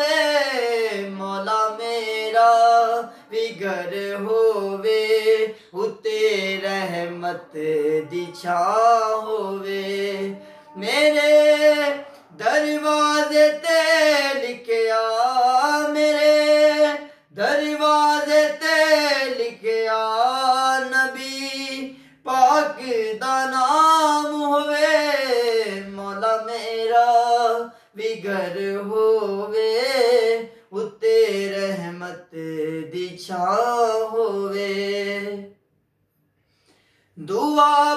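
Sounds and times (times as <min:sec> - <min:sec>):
man singing unaccompanied: 0:00.0 - 0:35.6, 0:37.2 - 0:37.9.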